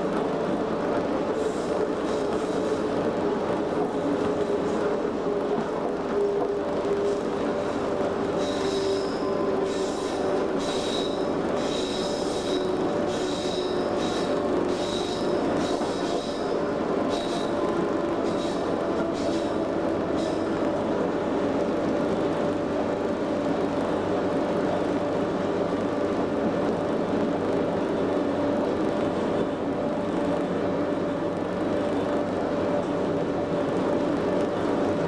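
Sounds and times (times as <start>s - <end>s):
electric locomotive hum: 0.0s - 35.0s
wheels rumbling on rails: 0.0s - 35.0s.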